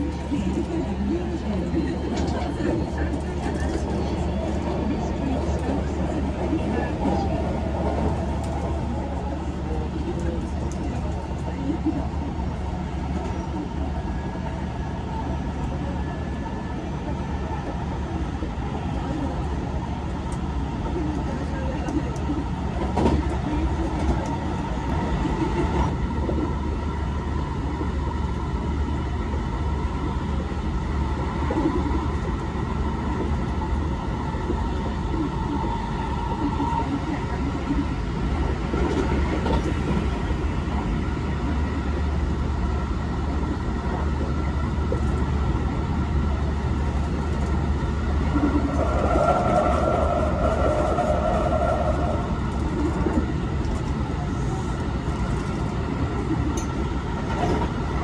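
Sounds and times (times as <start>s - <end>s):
faint train whine: 0.0s - 58.0s
train wheels rumbling on rail: 0.0s - 58.0s.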